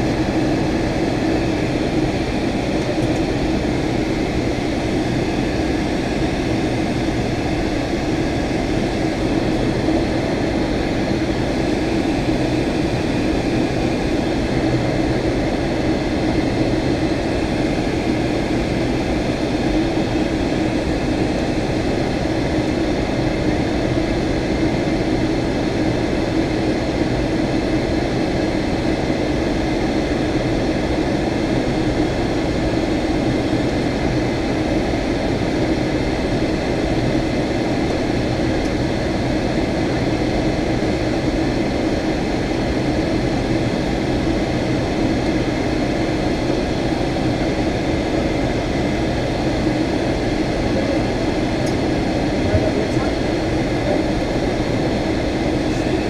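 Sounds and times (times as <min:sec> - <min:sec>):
airplane cabin drone: 0:00.0 - 0:56.0
faint steady whines: 0:00.0 - 0:56.0.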